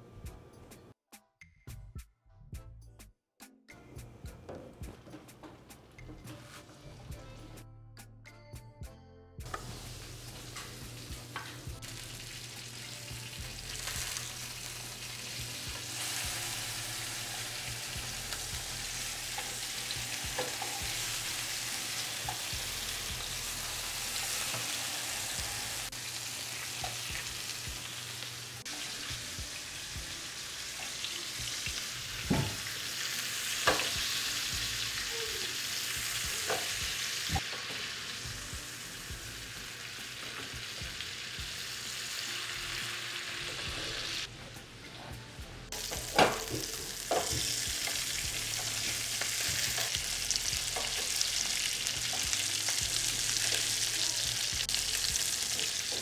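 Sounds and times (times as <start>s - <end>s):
fish sizzling in oil: 9.6s - 44.3s, 45.7s - 56.0s.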